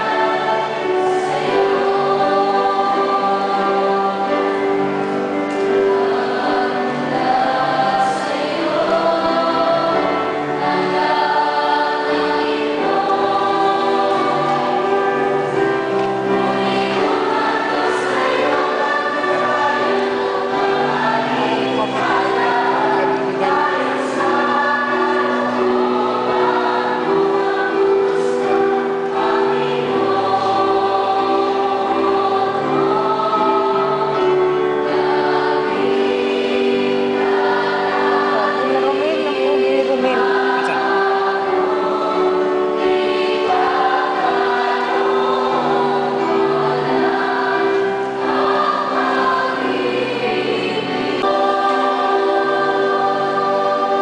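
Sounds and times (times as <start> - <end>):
church choir singing a hymn: 0.0 - 54.0.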